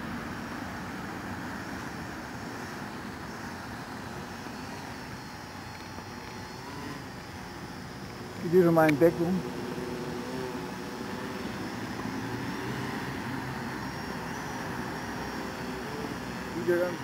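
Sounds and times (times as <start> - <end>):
drone propellers humming: 0.0 - 17.0.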